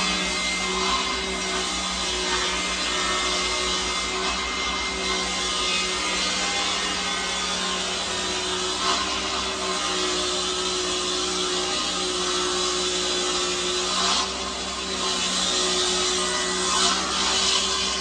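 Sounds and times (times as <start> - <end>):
cutter hissing through wood: 0.0 - 18.0.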